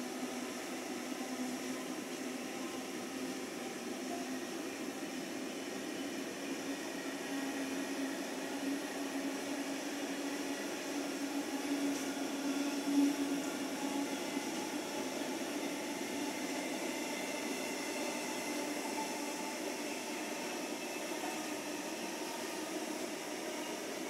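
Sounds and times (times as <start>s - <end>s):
freight train wheels on rails: 0.0s - 24.0s.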